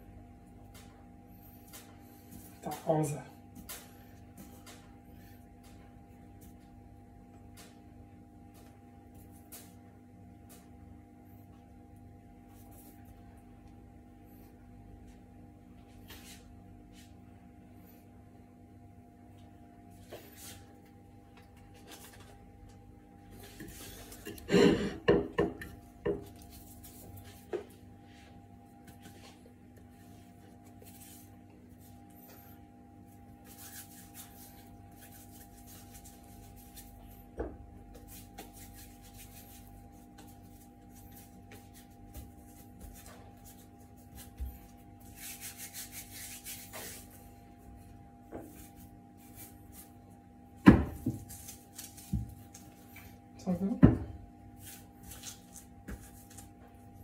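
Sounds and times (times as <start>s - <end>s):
hands rubbing and patting dough: 0.0s - 17.3s, 19.4s - 24.5s, 25.3s - 50.2s, 50.9s - 53.3s, 54.5s - 57.0s
faint steady hum: 0.0s - 57.0s.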